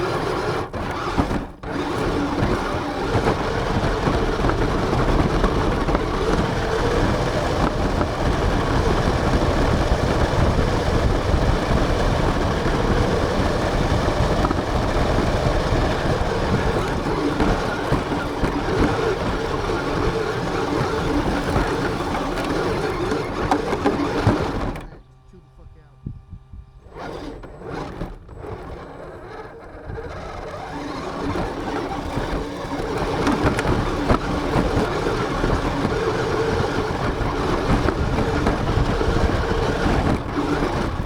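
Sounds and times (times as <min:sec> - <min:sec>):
tyres rumbling over ground: 0:00.0 - 0:25.0, 0:26.9 - 0:41.0
wavering motor hum: 0:00.0 - 0:41.0.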